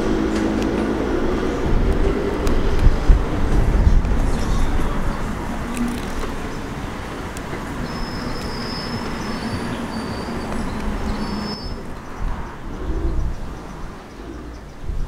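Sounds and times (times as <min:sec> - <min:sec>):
wheel squeals: 0:00.0 - 0:13.8
rail car rumbling on tracks: 0:00.0 - 0:15.0.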